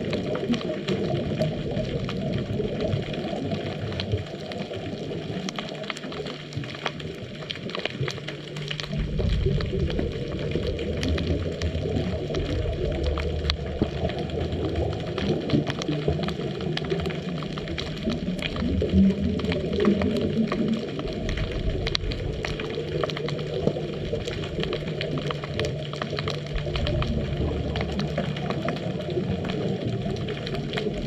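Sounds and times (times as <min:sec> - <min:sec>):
underwater bubbles rumbling: 0:00.0 - 0:31.0.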